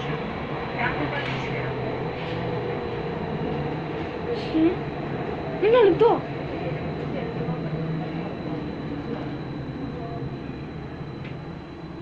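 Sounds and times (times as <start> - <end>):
high-pitched whine: 0.0 - 12.0
train rumble and hum: 0.0 - 12.0.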